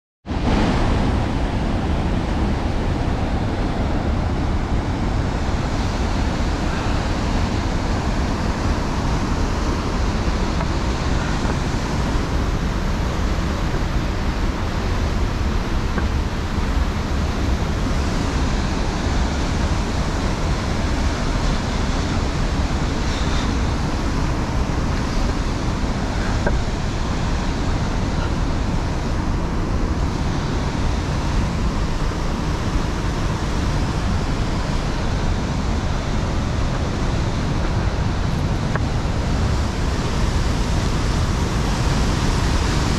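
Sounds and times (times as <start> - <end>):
river rushing over waterfall: 0.3 - 42.9.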